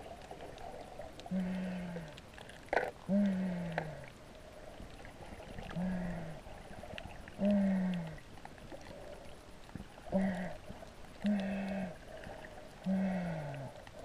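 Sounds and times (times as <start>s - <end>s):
faint water hiss: 0.0s - 14.0s
muffled hummed calls underwater: 0.0s - 14.0s.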